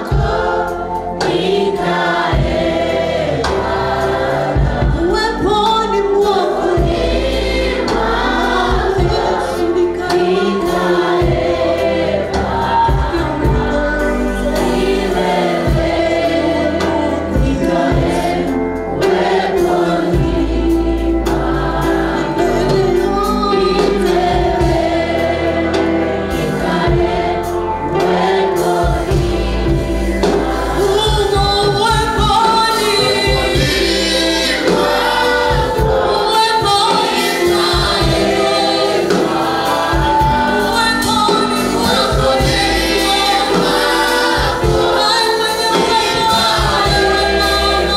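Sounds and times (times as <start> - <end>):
choir singing gospel song: 0.0 - 47.9
instrumental accompaniment: 0.0 - 47.9.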